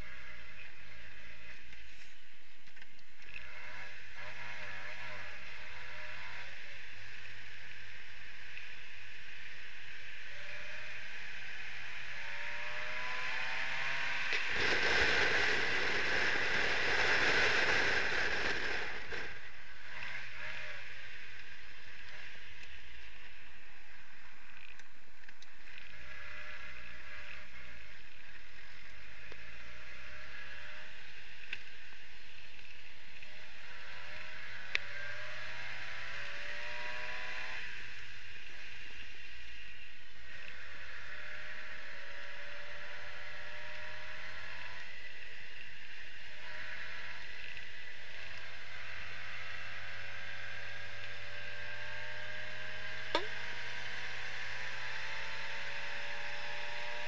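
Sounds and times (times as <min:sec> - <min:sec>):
car engine running: 0:00.0 - 0:40.8, 0:50.8 - 0:57.0
road noise: 0:00.0 - 0:57.0.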